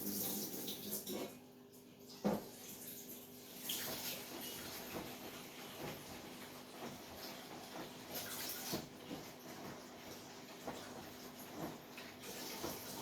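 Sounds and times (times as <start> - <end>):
laundry sloshing in washing machine: 0.0 - 13.0
washing machine low hum: 0.0 - 13.0.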